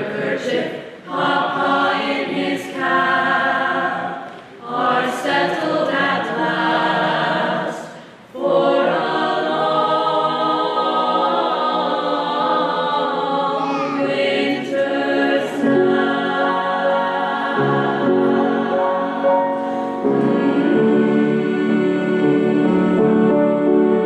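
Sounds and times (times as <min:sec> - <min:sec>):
choir singing a carol: 0:00.0 - 0:24.0.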